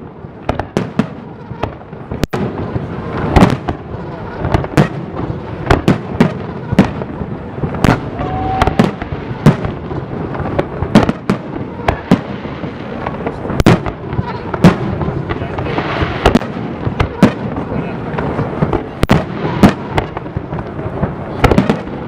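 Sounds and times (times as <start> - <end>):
fireworks bursting with sharp bangs: 0.0 - 22.0
fireworks crackle: 0.0 - 22.0.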